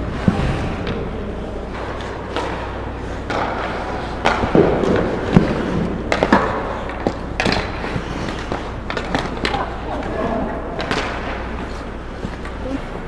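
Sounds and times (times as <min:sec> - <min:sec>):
skates scraping on ice: 0:00.0 - 0:12.9
steady low hum: 0:00.0 - 0:13.0
sticks and puck clacking: 0:00.2 - 0:12.8.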